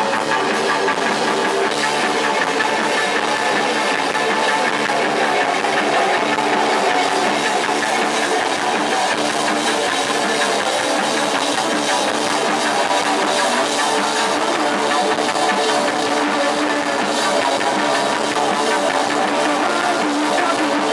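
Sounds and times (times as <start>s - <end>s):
drum kit: 0.0s - 20.9s
electric guitars: 0.0s - 20.9s.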